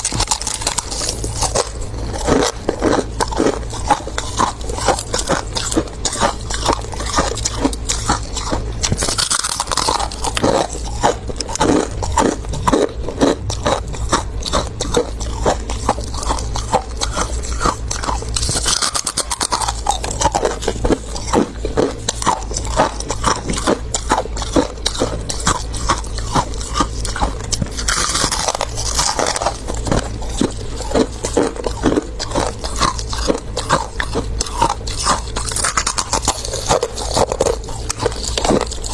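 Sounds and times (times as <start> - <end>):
chewing and crunching frost: 0.0 - 38.9.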